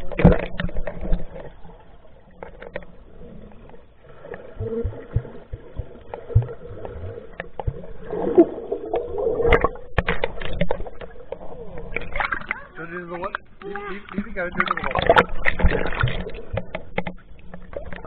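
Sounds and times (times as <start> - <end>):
underwater swishing and gurgling: 0.0 - 18.0.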